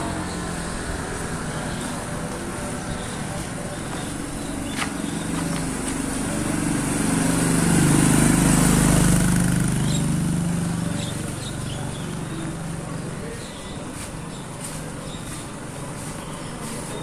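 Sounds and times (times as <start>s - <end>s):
motor scooter passing: 0.0s - 17.0s.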